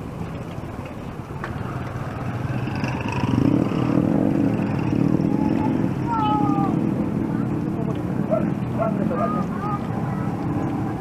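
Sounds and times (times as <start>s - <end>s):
motor vehicle engine rumble: 0.0s - 11.0s.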